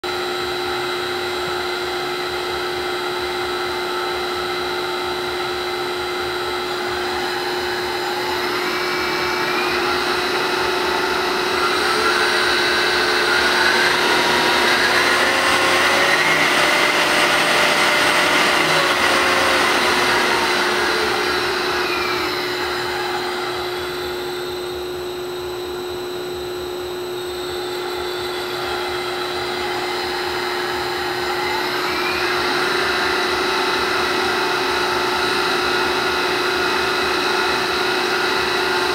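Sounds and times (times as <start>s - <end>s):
milling machine spindle motor whirring: 0.1s - 38.9s
steady hum: 0.1s - 38.9s.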